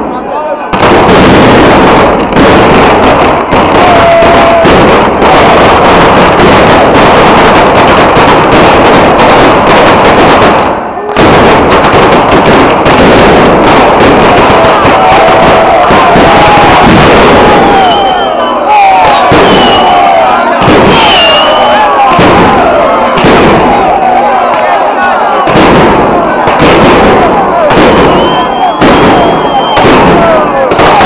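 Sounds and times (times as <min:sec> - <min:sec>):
firecrackers banging: 0:00.0 - 0:31.0.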